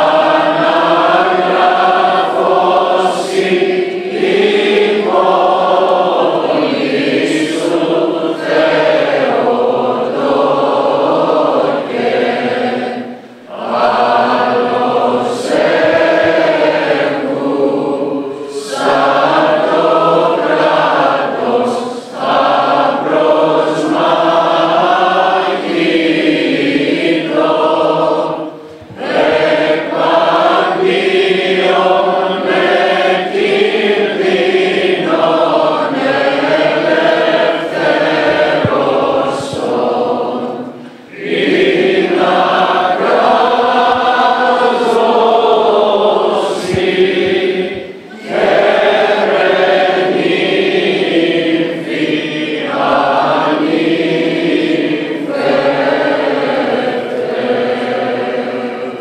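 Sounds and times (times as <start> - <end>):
crowd singing in unison: 0.0 - 59.0.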